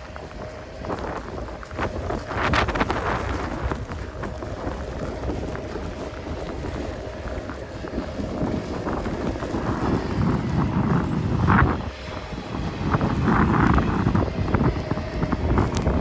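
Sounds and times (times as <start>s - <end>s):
vehicle low rumble: 0.0s - 16.0s
wind buffeting microphone: 0.0s - 16.0s.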